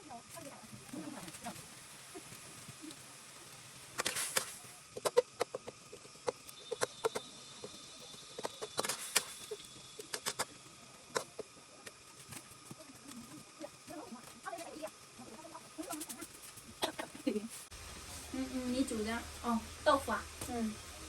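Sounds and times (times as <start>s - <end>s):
hissing bursts: 0.3s - 21.0s.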